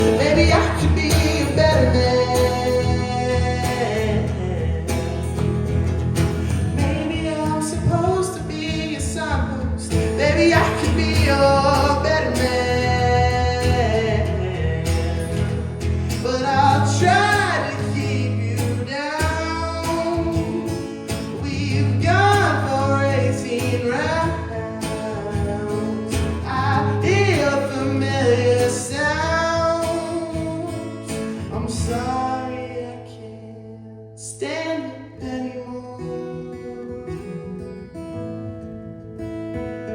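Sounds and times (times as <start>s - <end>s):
person singing with vibrato: 0.0s - 5.7s, 6.4s - 38.0s.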